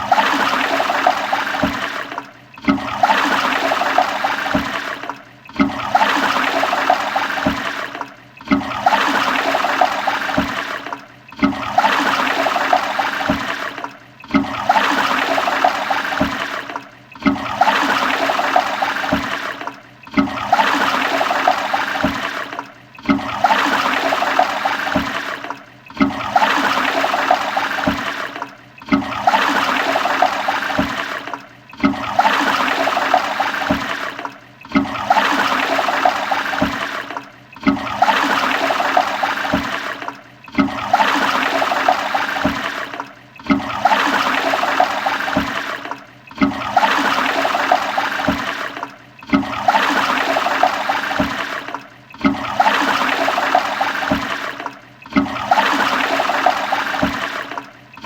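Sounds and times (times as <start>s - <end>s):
toilet flushing: 0.0s - 58.0s.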